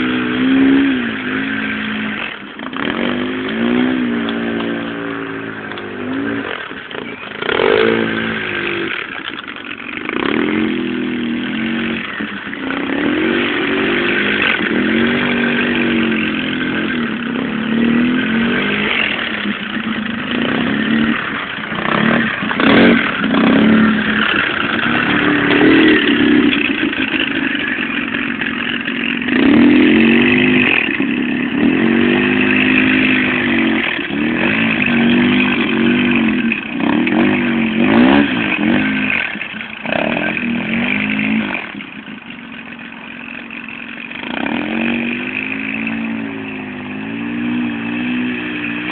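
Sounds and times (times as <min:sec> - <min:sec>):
engine revving: 0:00.0 - 0:48.9.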